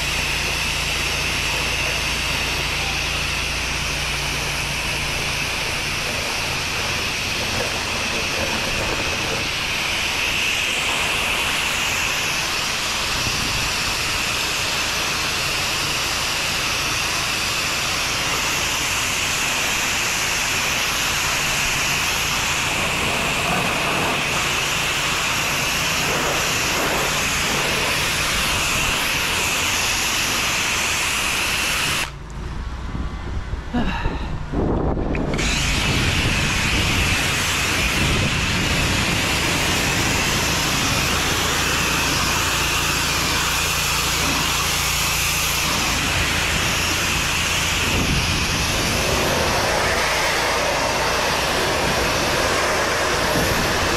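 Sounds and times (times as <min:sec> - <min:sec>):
pressure washer spray hissing: 0:00.0 - 0:32.2, 0:35.1 - 0:53.9.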